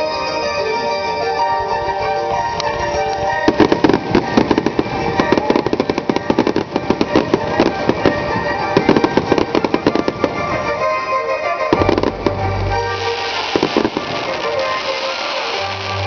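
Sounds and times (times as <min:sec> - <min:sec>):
music: 0:00.0 - 0:16.0
fireworks bangs and crackles: 0:02.3 - 0:16.0.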